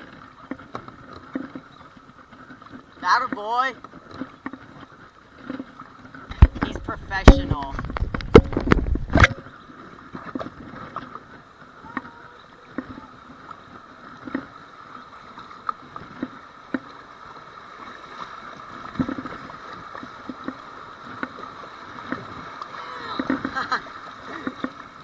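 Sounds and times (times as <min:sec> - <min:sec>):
paddle splashes and knocks: 0:00.0 - 0:25.0
rushing river water: 0:00.0 - 0:25.0.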